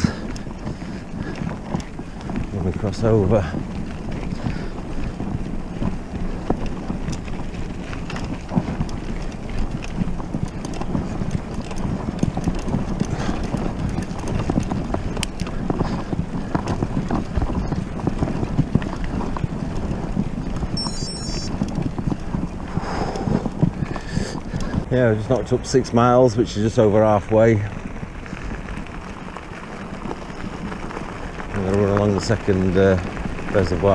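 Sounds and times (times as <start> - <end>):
mountain bike rumbling on rough track: 0.0 - 33.9
wind buffeting microphone: 0.0 - 33.9.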